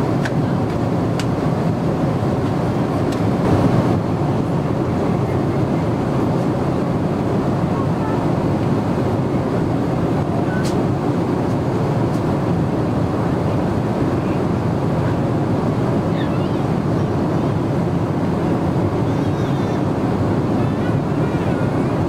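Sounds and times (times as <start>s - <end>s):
aircraft cabin air rushing: 0.0s - 22.0s
jet engines: 0.0s - 22.0s.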